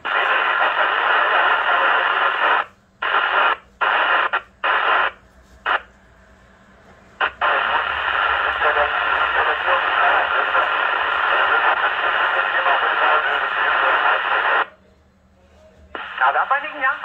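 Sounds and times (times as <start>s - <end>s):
radio static hiss: 0.0s - 6.0s, 7.2s - 14.8s, 15.9s - 17.0s.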